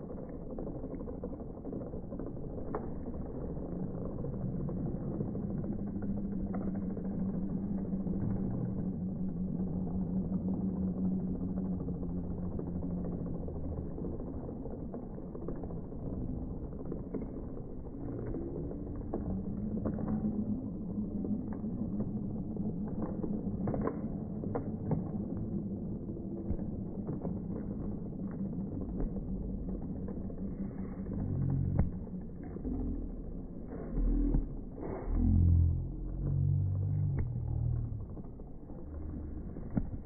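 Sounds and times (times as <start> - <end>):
deep steady rumble: 0.0 - 40.0
low drawn-out hum: 0.0 - 40.0.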